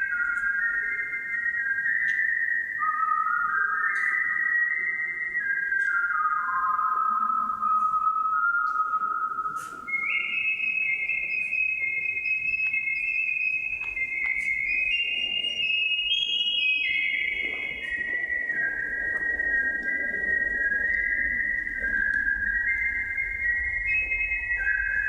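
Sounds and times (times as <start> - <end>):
person whistling a melody: 0.0 - 25.0.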